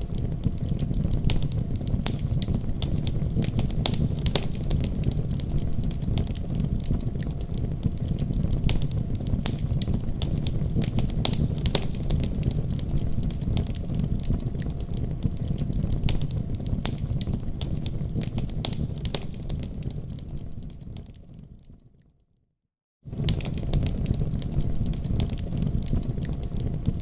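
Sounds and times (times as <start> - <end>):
fire crackling and popping: 0.0 - 22.0, 23.1 - 27.0
rumble of flames: 0.0 - 22.0, 23.0 - 27.0.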